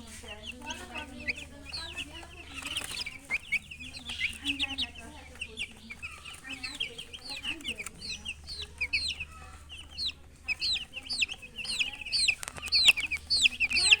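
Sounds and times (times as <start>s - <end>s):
chicks peeping: 0.0s - 14.0s
sharp clicks: 1.7s - 14.0s.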